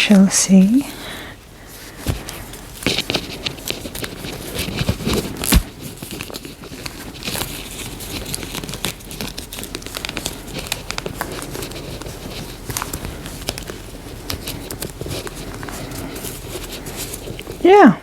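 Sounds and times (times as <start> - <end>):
clothing rustling on doll: 0.0 - 18.0.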